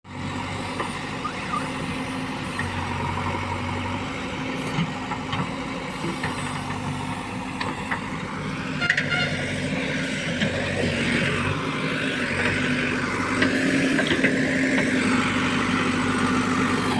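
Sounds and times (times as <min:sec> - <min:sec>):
diesel engine running: 0:00.1 - 0:16.9.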